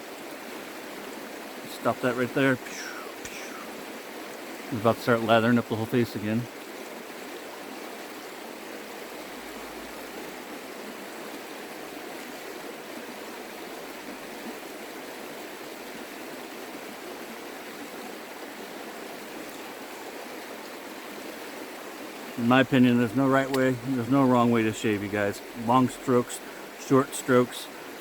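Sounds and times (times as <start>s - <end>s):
creek water running: 0.0s - 28.0s.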